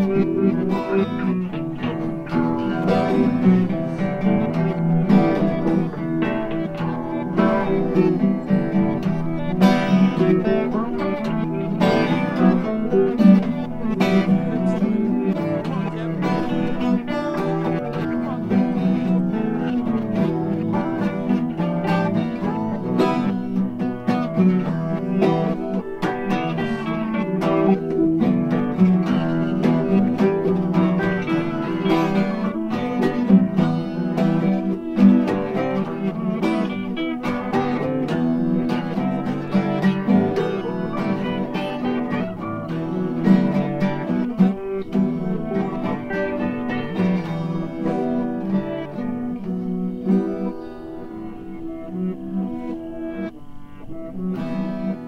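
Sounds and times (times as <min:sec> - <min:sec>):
acoustic guitar plucking: 0:00.0 - 0:55.0.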